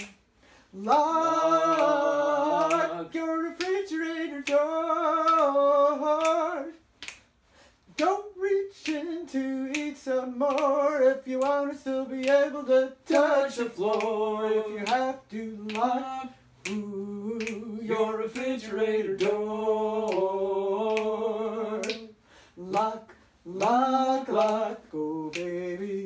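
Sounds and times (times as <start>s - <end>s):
finger snaps: 0.0s - 1.1s, 1.7s - 18.6s, 19.2s - 19.4s, 20.0s - 20.3s, 20.9s - 21.2s, 21.8s - 25.9s
person singing: 0.8s - 6.8s, 8.0s - 26.0s.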